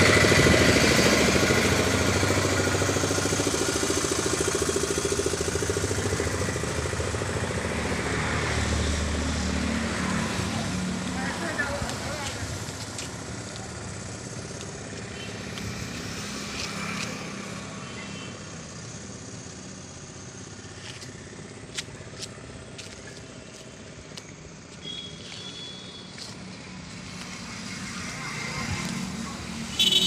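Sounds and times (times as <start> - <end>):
distant road traffic: 0.0 - 30.0.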